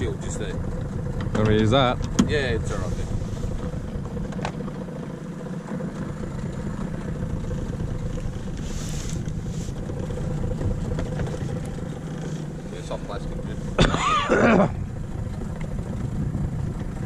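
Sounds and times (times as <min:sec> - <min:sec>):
small boat motor running: 0:00.0 - 0:17.0.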